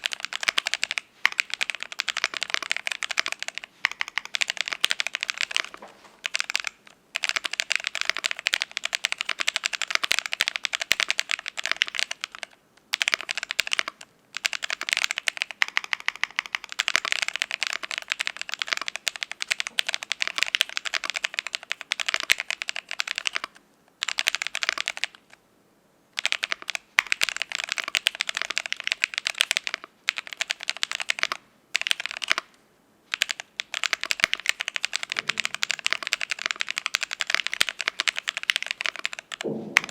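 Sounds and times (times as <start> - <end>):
fast typing on mechanical keyboard: 0.0 - 25.4, 26.2 - 32.5, 33.1 - 39.9.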